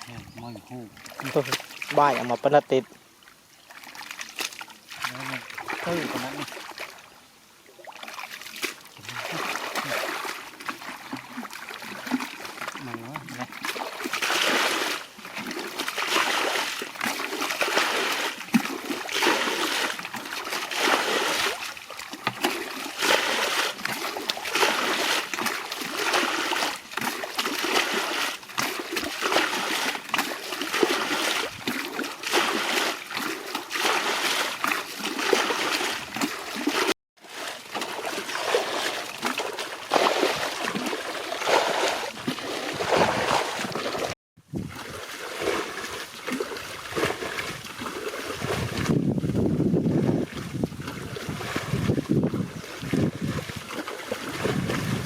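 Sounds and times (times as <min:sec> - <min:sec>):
hands splashing shallow water: 0:01.0 - 0:02.8, 0:03.7 - 0:07.0, 0:07.8 - 0:49.0, 0:50.1 - 0:55.0.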